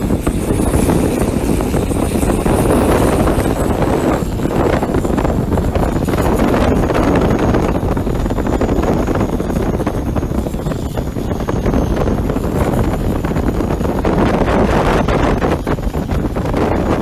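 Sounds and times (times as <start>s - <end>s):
boat diesel engine running: 0.0s - 17.0s
faint high whine: 0.0s - 17.0s
wind buffeting microphone: 0.0s - 17.0s.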